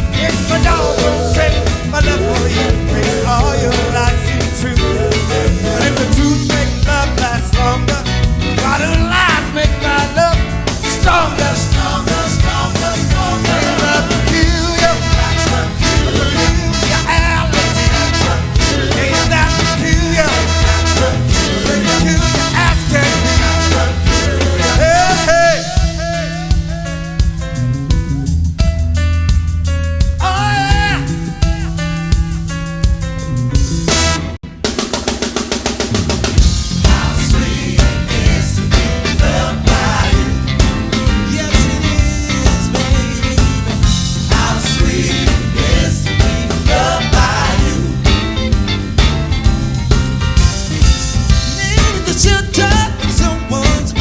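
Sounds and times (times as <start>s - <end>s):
band playing upbeat music: 0.0s - 54.0s
steady drum beat: 0.0s - 54.0s.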